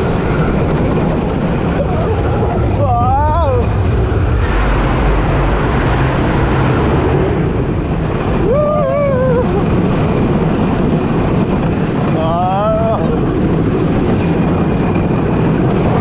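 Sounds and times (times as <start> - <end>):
roller coaster wheels rumbling: 0.0 - 16.0
wind rush: 0.0 - 16.0.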